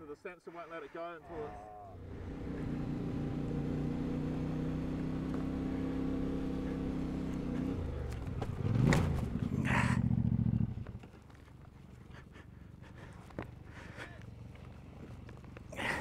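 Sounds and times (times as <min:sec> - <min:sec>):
motorcycle revving: 0:01.8 - 0:16.0
motorcycle engine idling: 0:02.0 - 0:16.0.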